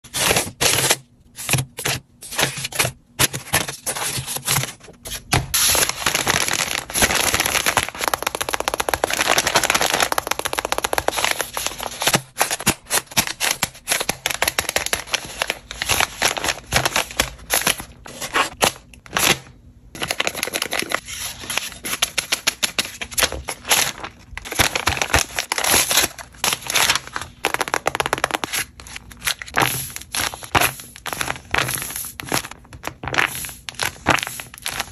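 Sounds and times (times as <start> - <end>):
paper crinkling and rustling: 0.1 - 34.9.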